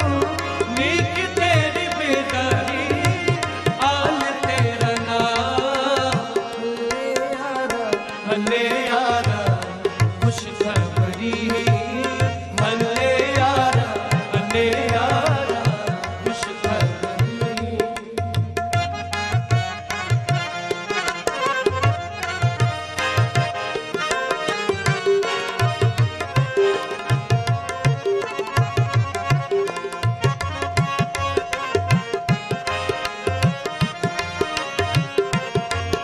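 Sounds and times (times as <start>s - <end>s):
harmonium: 0.0s - 36.0s
man singing devotional melody: 0.0s - 36.0s
tabla beat: 0.0s - 36.0s.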